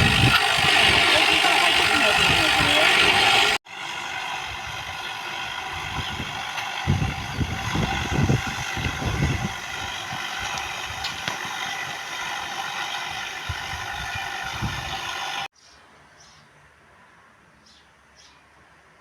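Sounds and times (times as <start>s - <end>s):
steady motor hum: 0.0s - 15.5s.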